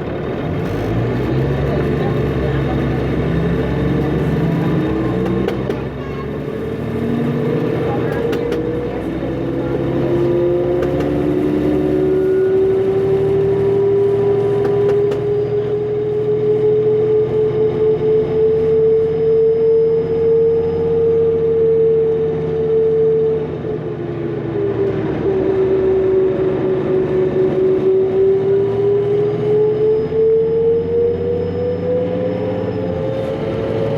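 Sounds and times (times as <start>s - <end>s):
bus diesel engine turbo whine: 0.0s - 33.9s.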